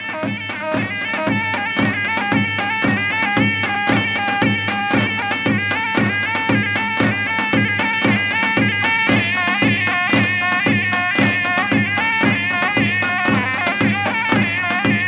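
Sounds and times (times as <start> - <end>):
steady drum beat: 0.0 - 15.0
wind instrument melody: 0.0 - 15.0.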